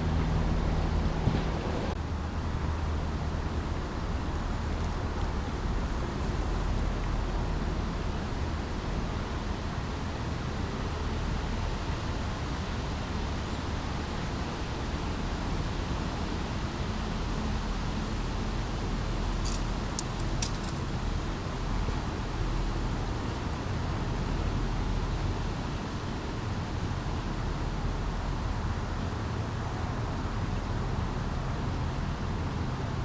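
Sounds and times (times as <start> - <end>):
low rumble of road traffic: 0.0 - 33.0.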